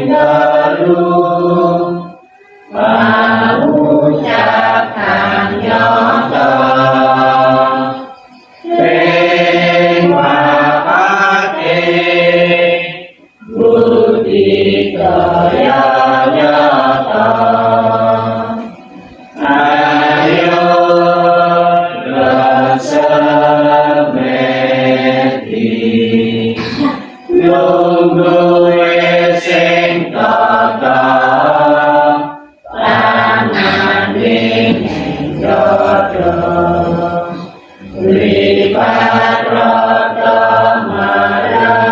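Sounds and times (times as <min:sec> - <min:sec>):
group singing devotional song: 0:00.0 - 0:41.9.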